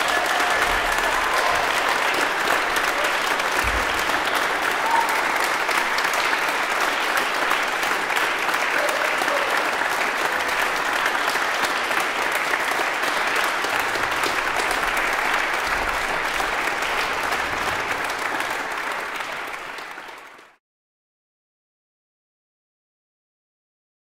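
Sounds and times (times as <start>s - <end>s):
audience applauding: 0.0s - 20.6s.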